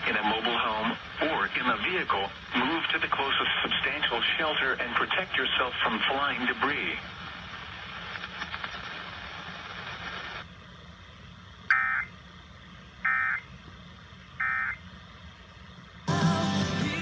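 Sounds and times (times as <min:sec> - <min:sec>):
radio receiver hiss: 0:00.0 - 0:17.0.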